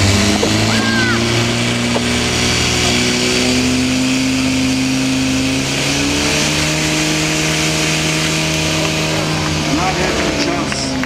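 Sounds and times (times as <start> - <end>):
fire pump engine running: 0.0 - 11.0.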